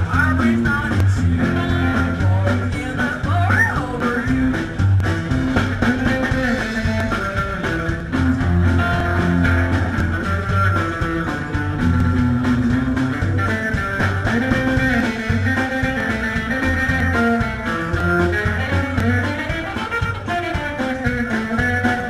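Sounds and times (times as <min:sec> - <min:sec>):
rock and roll band playing: 0:00.0 - 0:22.0.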